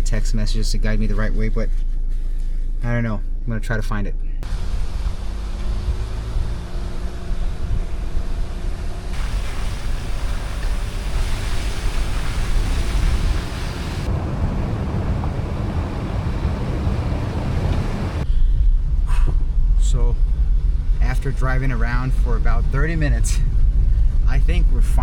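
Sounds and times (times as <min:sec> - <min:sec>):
low road rumble: 0:00.0 - 0:25.0
wind rushing over microphone: 0:04.4 - 0:25.0.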